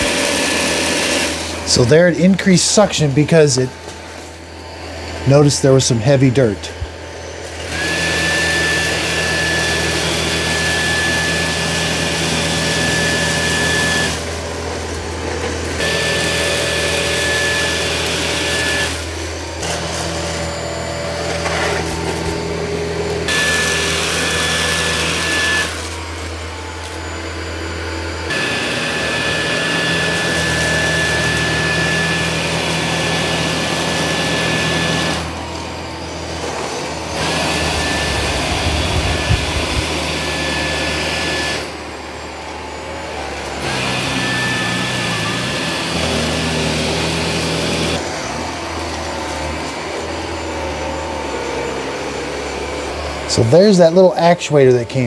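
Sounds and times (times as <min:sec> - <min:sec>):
robot vacuum motor whine: 0:00.0 - 0:54.2.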